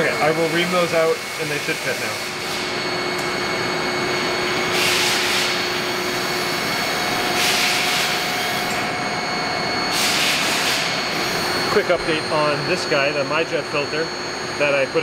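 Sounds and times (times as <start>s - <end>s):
running machinery: 0.0s - 15.0s.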